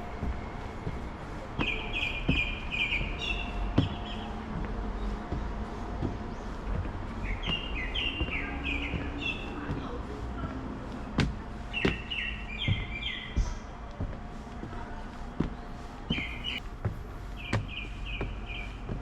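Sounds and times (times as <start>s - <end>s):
footsteps on forest path: 0.0s - 19.0s.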